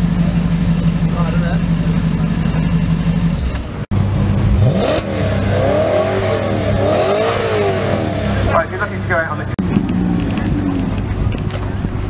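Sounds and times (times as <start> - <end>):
car engine idling: 0.0 - 12.0
car engine revving: 0.0 - 12.0.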